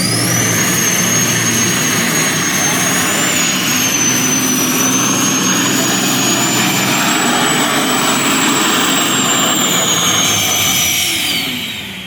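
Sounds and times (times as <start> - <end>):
turbo whistle: 0.0 - 11.8
diesel truck engine under load: 0.0 - 12.0.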